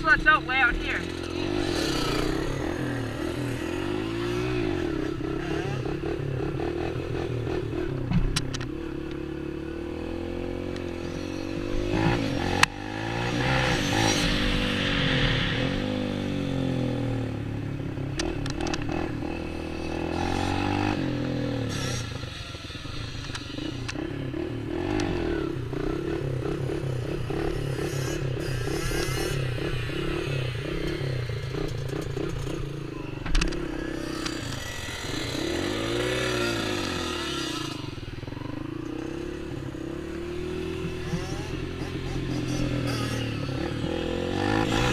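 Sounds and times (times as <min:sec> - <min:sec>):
small off-road engines revving: 0:00.0 - 0:44.9.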